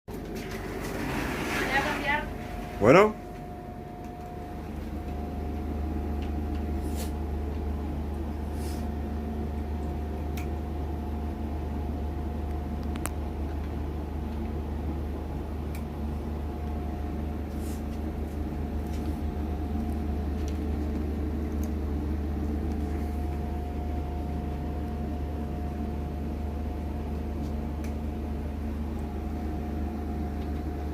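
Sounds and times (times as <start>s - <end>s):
low mechanical hum: 0.1s - 30.9s.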